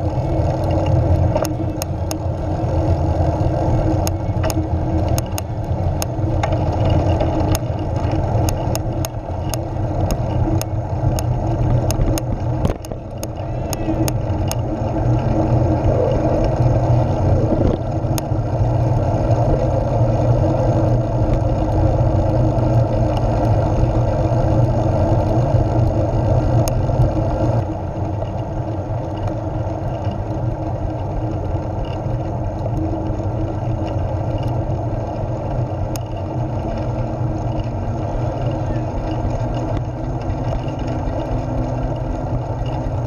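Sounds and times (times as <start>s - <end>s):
rolling road rumble: 0.0s - 43.0s
wind rush on microphone: 0.0s - 43.0s.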